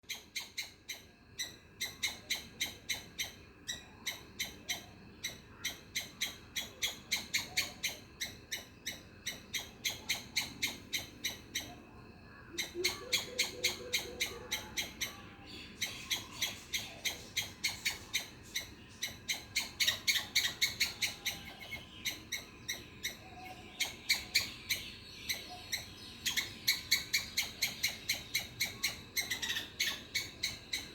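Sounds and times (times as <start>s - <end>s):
squirrel chirping: 0.0s - 11.9s, 12.6s - 30.9s.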